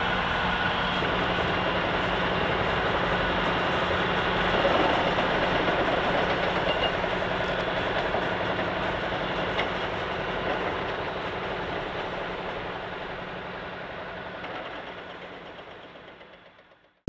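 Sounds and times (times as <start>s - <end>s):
heavy engine humming: 0.0s - 17.0s.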